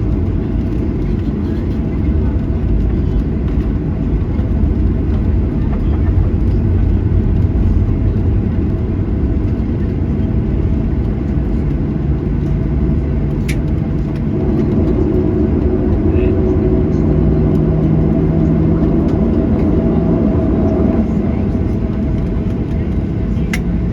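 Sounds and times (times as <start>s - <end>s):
airplane cabin engine rumble: 0.0s - 23.9s
low hum: 0.0s - 23.9s.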